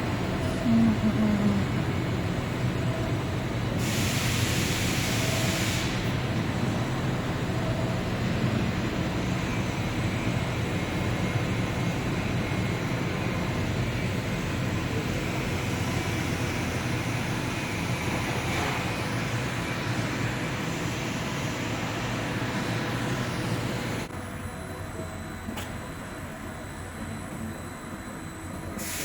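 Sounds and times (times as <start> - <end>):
machine humming with fan noise: 0.0 - 29.0.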